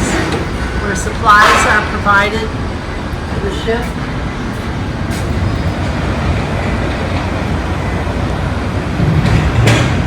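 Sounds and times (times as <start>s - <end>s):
vehicles and machinery working: 0.0s - 10.0s.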